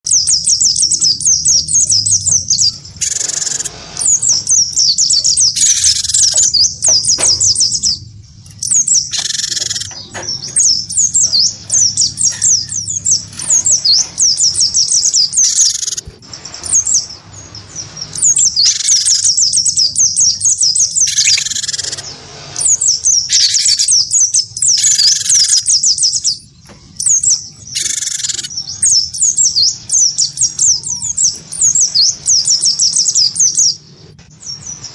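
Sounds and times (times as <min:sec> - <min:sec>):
harsh bird call phrases: 0:00.0 - 0:33.8
fast high bird twitter: 0:00.0 - 0:34.9.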